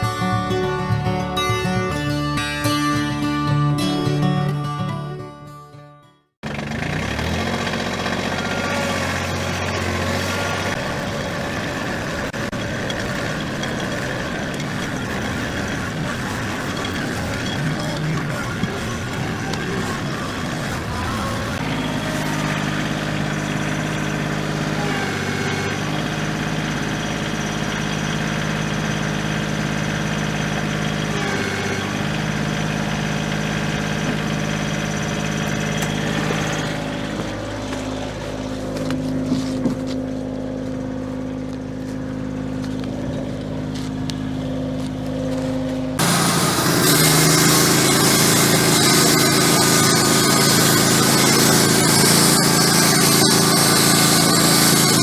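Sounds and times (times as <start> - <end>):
engine running steadily: 6.4 - 55.0.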